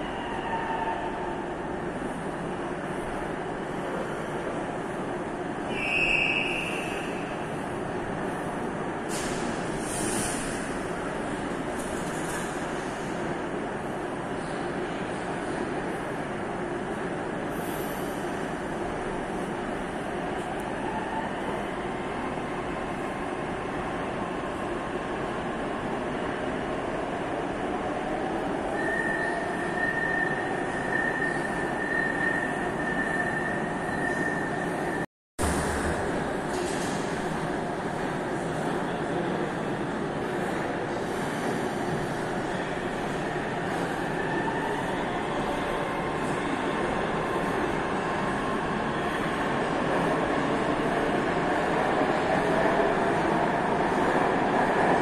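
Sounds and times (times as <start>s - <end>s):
metro train rumble: 0.0s - 55.0s.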